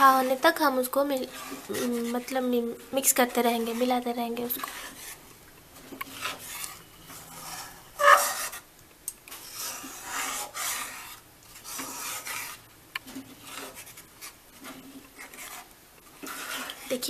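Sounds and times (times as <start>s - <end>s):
spoon scraping batter in pan: 0.0s - 17.0s.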